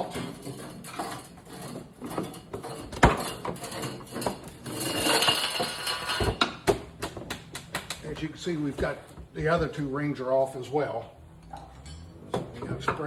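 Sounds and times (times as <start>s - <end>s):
metal hoops scraping and rattling: 0.0s - 13.0s.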